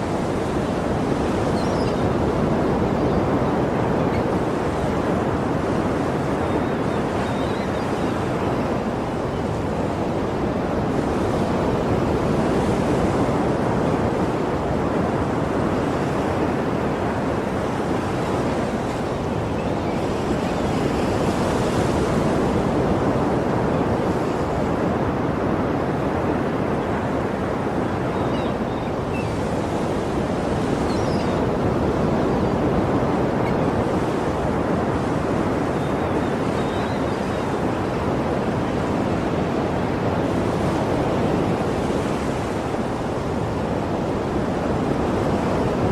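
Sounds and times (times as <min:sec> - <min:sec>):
sea waves washing onto shore: 0:00.0 - 0:45.9.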